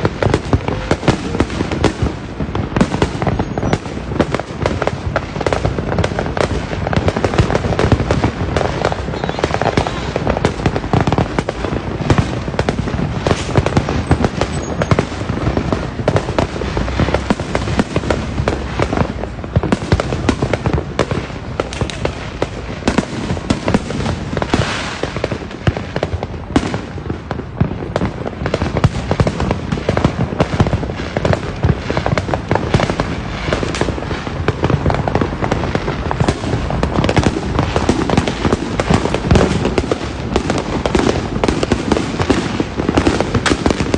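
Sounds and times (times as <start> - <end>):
firecrackers crackling: 0.0 - 43.9
firework bangs: 0.0 - 43.9.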